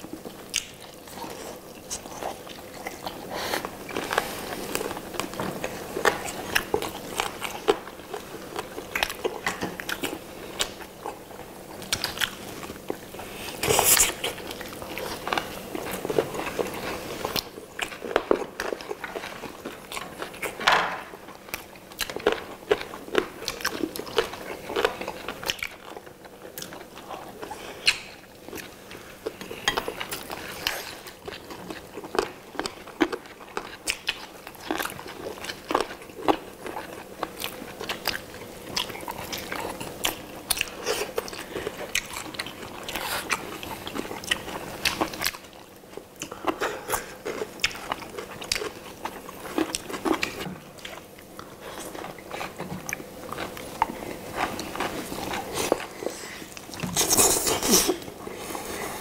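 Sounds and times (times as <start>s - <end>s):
people chewing chicken: 0.0s - 59.0s.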